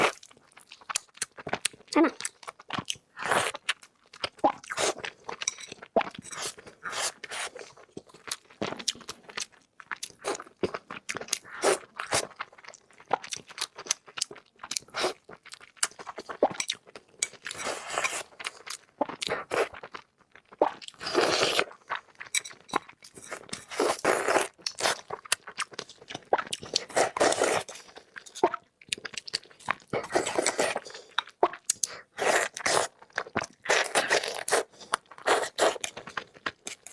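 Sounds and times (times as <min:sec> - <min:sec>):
person chewing crunchy food: 0:00.0 - 0:36.9.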